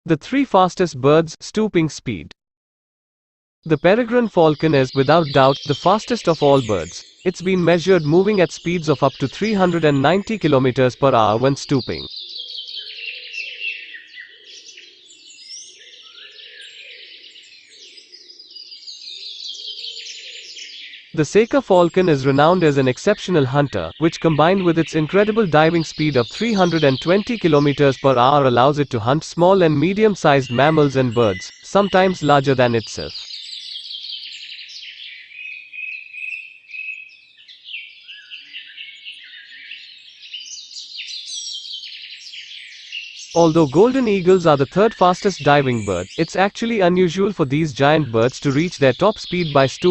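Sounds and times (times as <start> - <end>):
small birds chirping and singing: 3.7 - 49.9.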